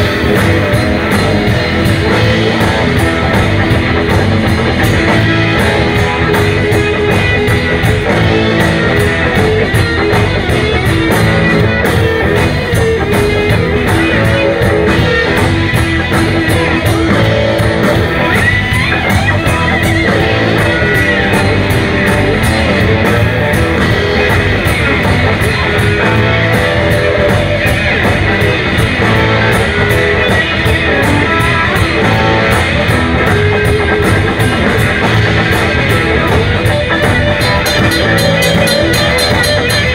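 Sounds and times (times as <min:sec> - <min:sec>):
bass: 0:00.0 - 0:39.9
drum kit beat: 0:00.0 - 0:39.9
electric guitars: 0:00.0 - 0:39.9.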